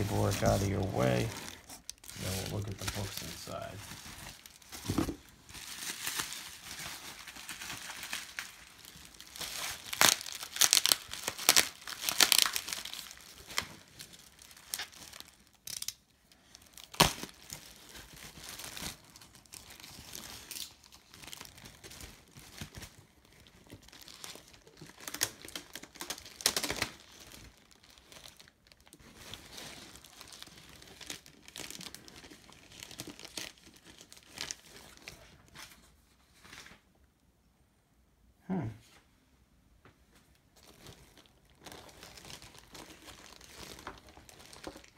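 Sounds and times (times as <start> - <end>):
paper rustling and crinkling: 0.0 - 15.9, 16.5 - 36.9, 40.2 - 44.9.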